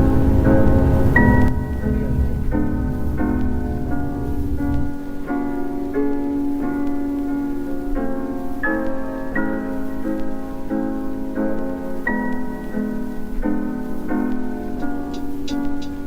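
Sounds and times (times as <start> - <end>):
keyboard playing sustained chords: 0.0 - 15.2.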